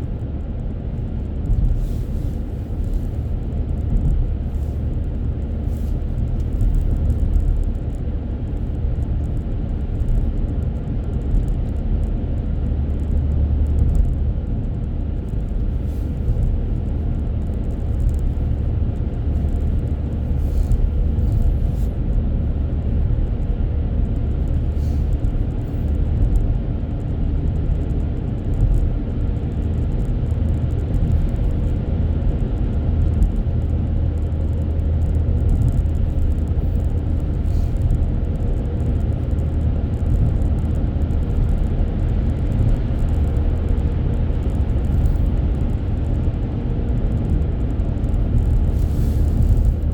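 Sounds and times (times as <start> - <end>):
car driving rumble inside cabin: 0.0 - 49.9.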